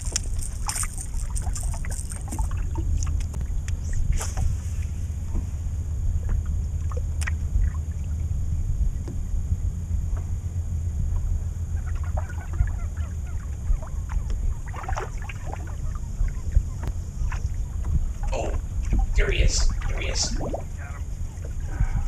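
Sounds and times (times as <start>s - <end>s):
wind and water rumble: 0.0s - 22.0s.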